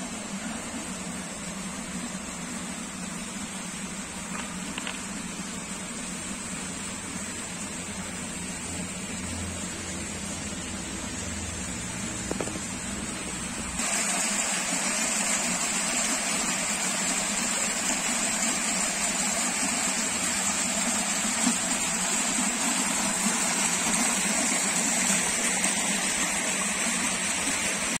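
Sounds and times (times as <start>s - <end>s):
water rushing down concrete channel: 0.0s - 28.0s.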